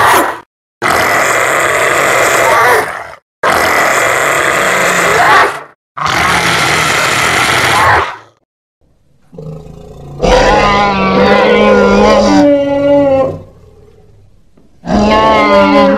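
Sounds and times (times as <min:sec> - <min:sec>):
harsh creature roar: 0:00.0 - 0:08.4, 0:09.3 - 0:13.8, 0:14.8 - 0:15.9.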